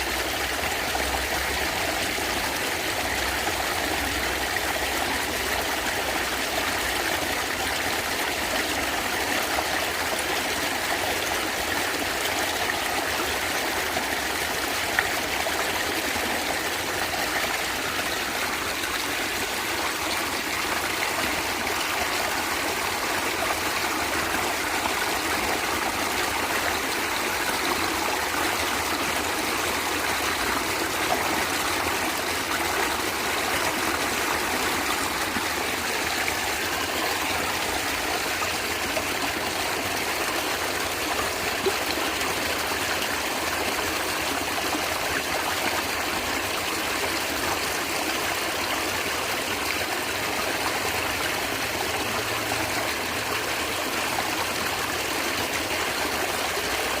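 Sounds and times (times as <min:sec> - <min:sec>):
stream gurgling: 0:00.0 - 0:57.0.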